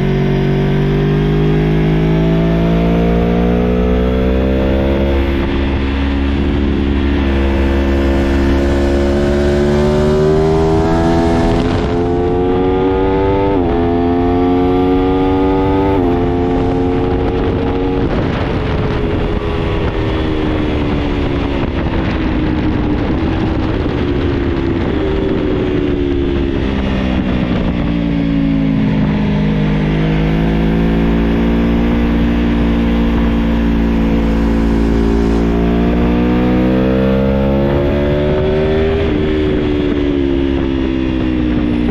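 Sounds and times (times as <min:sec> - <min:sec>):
low wind rumble: 0:00.0 - 0:41.9
motorcycle engine revving: 0:00.0 - 0:41.9.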